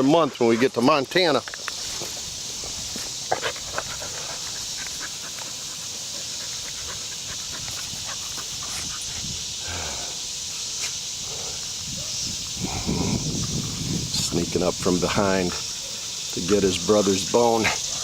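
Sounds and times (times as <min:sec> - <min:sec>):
steady high hiss: 0:00.0 - 0:18.0
dogs panting: 0:01.6 - 0:18.0.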